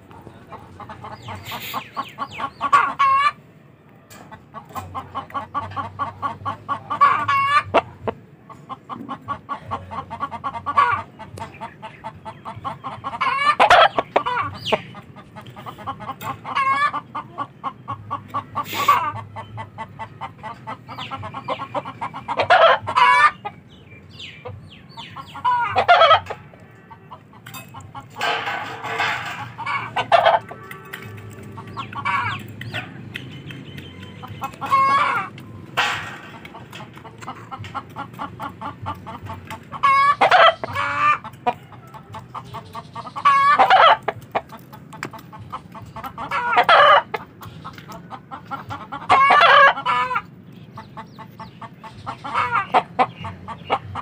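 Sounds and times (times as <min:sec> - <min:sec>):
chicken calls: 0:00.0 - 0:03.5, 0:04.1 - 0:54.0
chickens clucking: 0:00.0 - 0:54.0.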